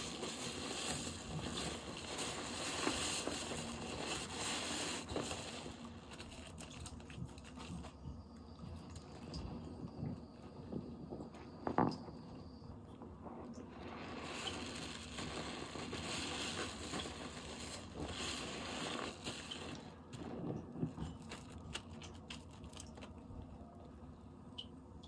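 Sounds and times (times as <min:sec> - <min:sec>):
lather crackling and popping: 0:00.0 - 0:10.2, 0:13.2 - 0:23.5.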